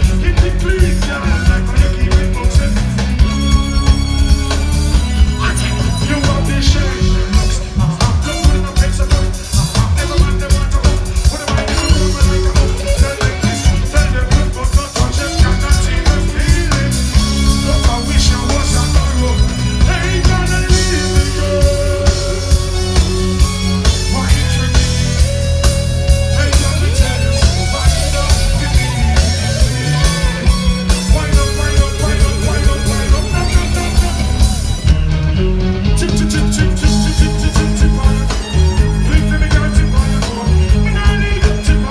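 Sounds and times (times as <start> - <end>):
drums steady beat: 0.0 - 41.9
live reggae band: 0.0 - 41.9.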